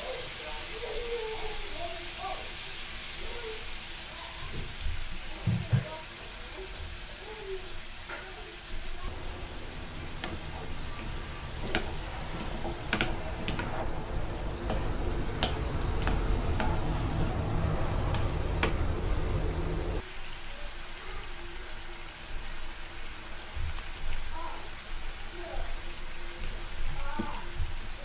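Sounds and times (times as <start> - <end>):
squash sizzling in pan: 0.0 - 28.0.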